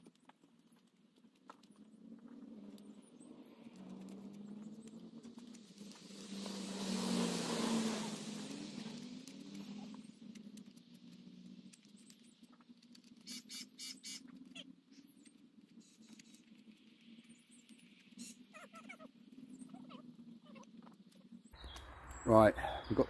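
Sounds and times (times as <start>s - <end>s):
distant engine drone: 1.9s - 23.0s.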